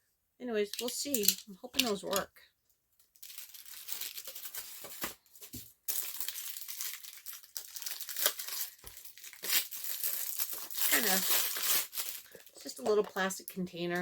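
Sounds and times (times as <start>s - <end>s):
plastic packaging crinkling: 0.7s - 2.3s, 3.0s - 14.0s.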